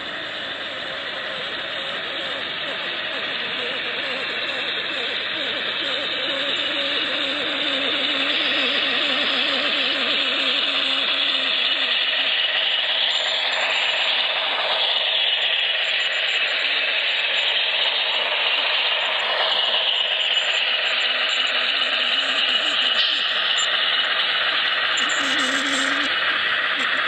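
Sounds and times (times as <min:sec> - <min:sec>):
model train rattling on track: 0:00.0 - 0:27.0
wavering pitched engine sound: 0:00.0 - 0:27.0.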